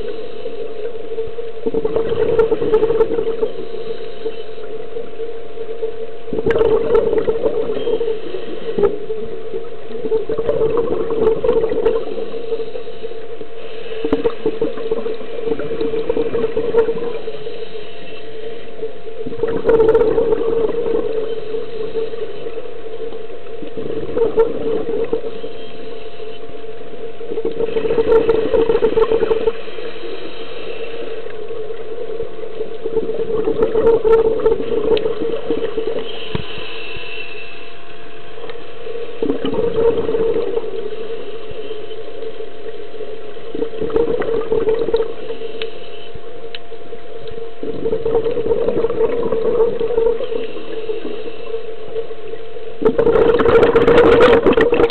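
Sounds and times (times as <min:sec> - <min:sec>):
exhaled bubbles underwater: 0:00.0 - 0:17.6, 0:18.8 - 0:36.7, 0:38.3 - 0:45.7, 0:46.3 - 0:54.9
steady hum: 0:00.0 - 0:54.9.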